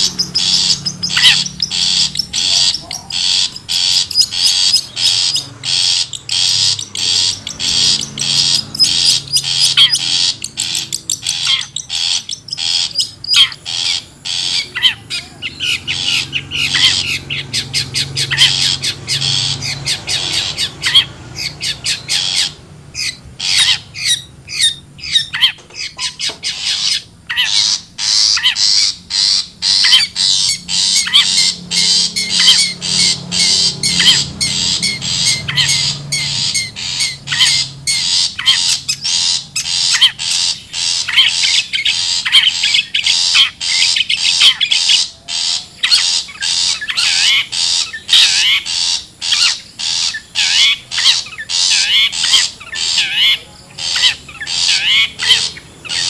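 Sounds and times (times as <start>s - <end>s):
bird harsh rasping calls: 0.0s - 56.0s.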